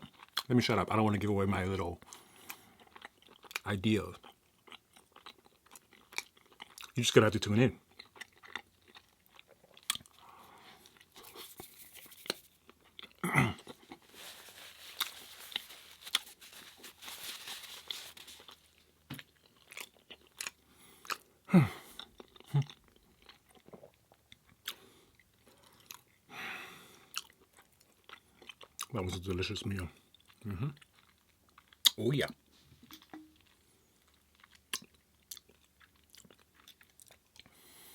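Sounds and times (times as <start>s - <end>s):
person chewing food: 0.0s - 0.5s, 2.1s - 3.6s, 4.2s - 7.0s, 7.8s - 26.2s, 27.0s - 28.9s, 30.1s - 31.9s, 32.9s - 37.9s.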